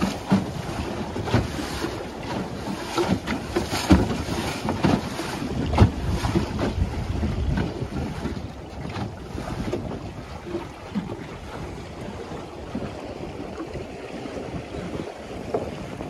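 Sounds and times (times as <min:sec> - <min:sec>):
bow slapping waves: 0:00.0 - 0:16.0
water rushing along hull: 0:00.0 - 0:16.0
wind buffeting microphone: 0:00.0 - 0:16.0.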